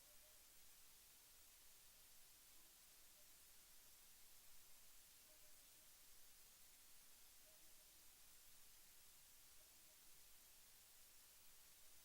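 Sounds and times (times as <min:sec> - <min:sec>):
faint recording hiss: 0:00.0 - 0:12.0.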